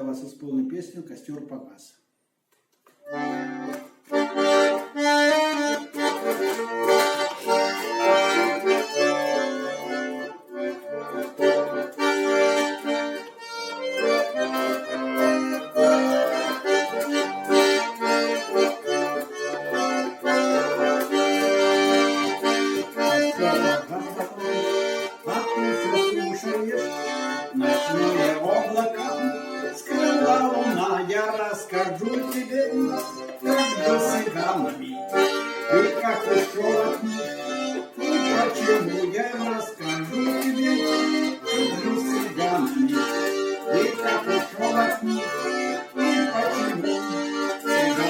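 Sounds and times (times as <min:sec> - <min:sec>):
button accordion playing: 0:02.9 - 0:48.0.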